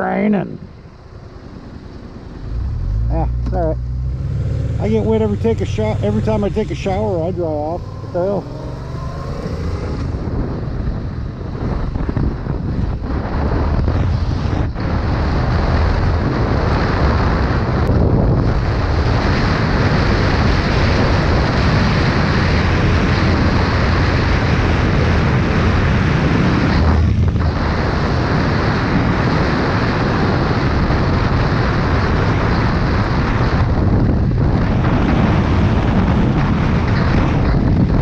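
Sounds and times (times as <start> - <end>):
motorcycle engine and tyre noise: 0.0 - 38.0
wind rushing over microphone: 0.0 - 38.0.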